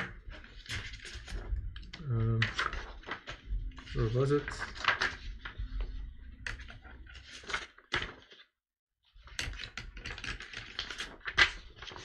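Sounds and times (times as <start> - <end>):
paper sheets rustling: 0.0 - 1.5, 2.2 - 8.5, 9.2 - 12.0.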